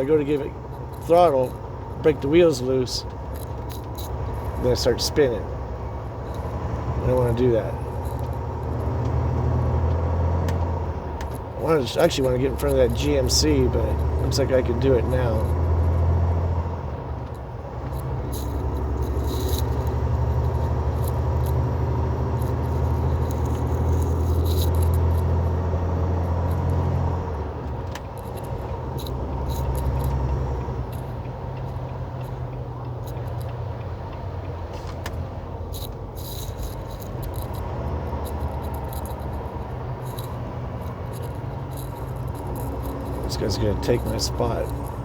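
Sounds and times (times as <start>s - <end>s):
rattles and clicks in cab: 0.0s - 45.0s
truck diesel engine under load: 0.0s - 45.0s.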